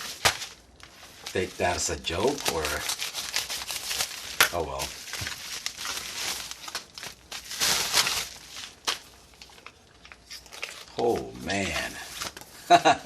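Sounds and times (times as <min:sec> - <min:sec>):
packaging crinkling: 0:00.0 - 0:12.8.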